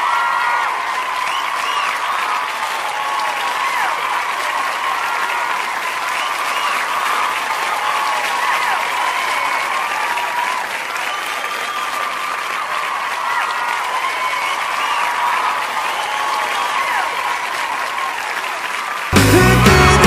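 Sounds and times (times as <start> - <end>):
audience applauding: 0.0 - 20.0
people cheering: 0.0 - 20.0.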